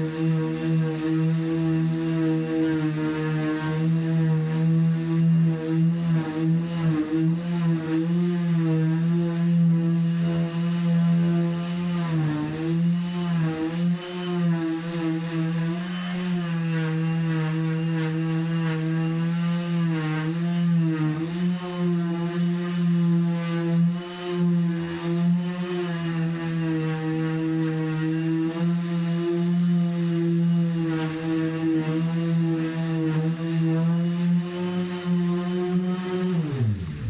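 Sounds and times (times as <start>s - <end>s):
orbital sander sanding wood: 0.0s - 37.0s.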